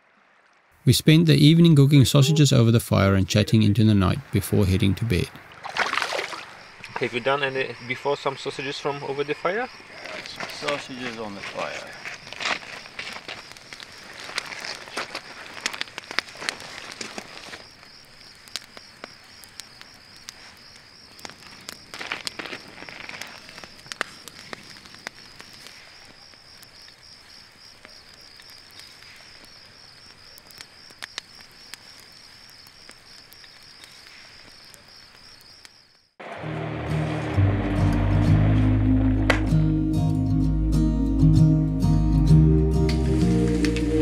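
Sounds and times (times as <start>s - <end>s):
campfire crackling and popping: 3.3s - 40.1s, 42.8s - 44.0s.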